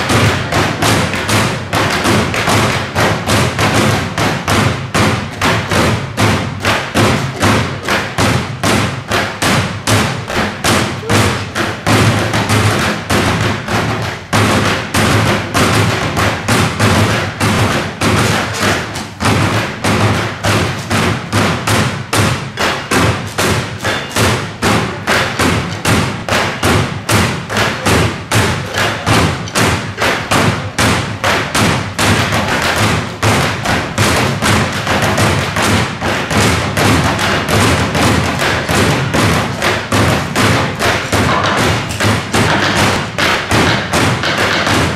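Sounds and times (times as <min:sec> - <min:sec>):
plastic bins drummed by hand: 0:00.0 - 0:44.9.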